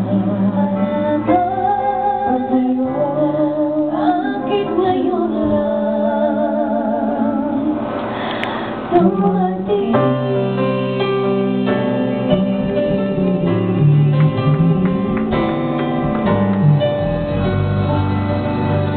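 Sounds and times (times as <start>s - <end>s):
acoustic guitar: 0.0s - 18.9s.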